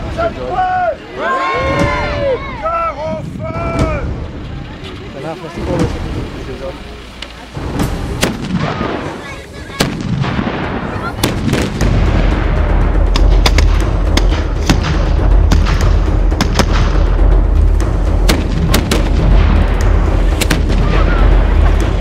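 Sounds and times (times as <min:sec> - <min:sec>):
low rumble: 0:01.6 - 0:22.0.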